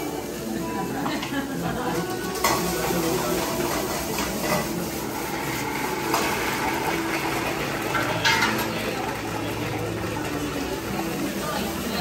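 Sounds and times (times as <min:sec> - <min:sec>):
dishes and utensils clinking: 0:00.0 - 0:12.0.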